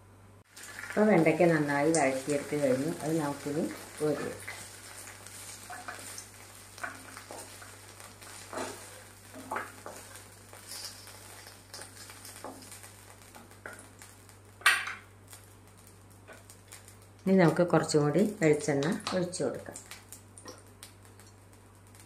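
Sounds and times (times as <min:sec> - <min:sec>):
okra sizzling in oil: 0:00.4 - 0:22.0.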